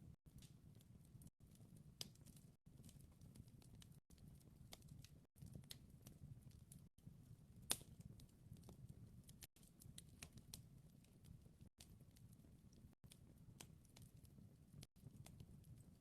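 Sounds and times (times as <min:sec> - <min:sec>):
wood fire crackling: 0:00.3 - 0:16.0.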